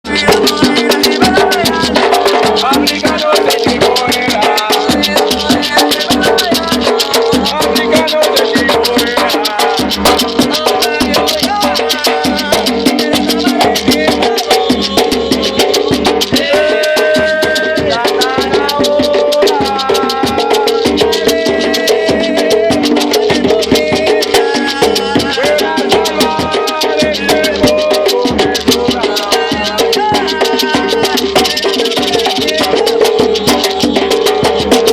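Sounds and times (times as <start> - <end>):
drum and shaker percussion: 0.0 - 34.9
voices singing: 0.0 - 34.9.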